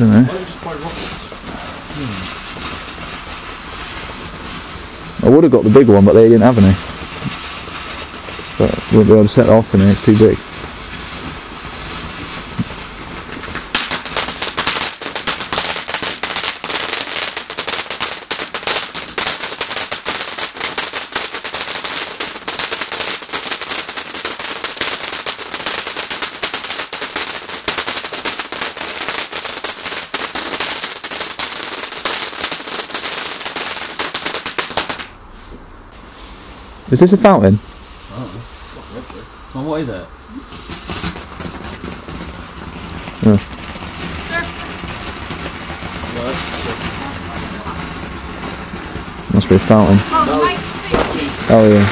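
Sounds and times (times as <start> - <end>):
rapid crackle of small pops: 0.0 - 35.1, 40.5 - 51.9
firework fuse hissing: 0.0 - 51.9.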